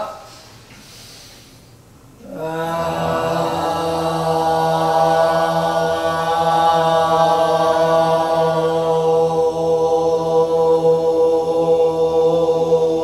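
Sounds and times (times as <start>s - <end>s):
voices holding a sung tone: 2.2s - 13.0s.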